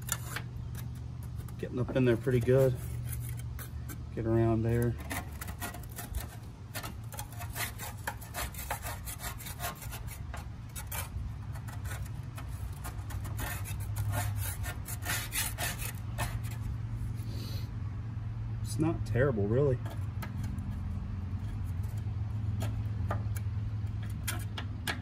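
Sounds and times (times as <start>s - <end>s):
scraper rasping on steel deck: 0.0s - 17.4s, 19.4s - 25.0s.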